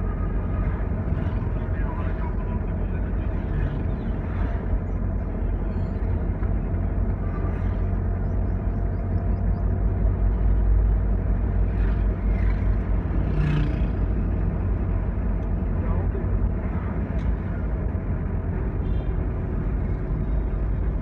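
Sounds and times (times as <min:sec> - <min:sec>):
road rumble: 0:00.0 - 0:21.0
truck engine drone: 0:00.0 - 0:21.0.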